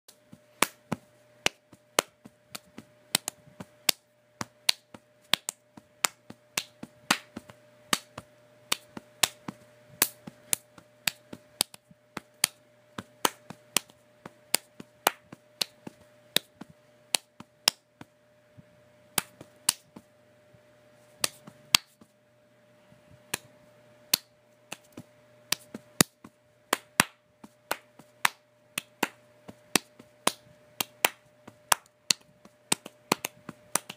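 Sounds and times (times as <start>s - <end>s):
faint steady hum: 0.1s - 33.9s.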